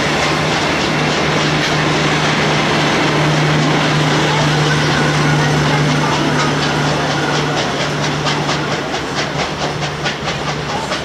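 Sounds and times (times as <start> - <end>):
train carriages rushing past: 0.0 - 11.0
wheels clicking over rail joints: 0.0 - 11.0.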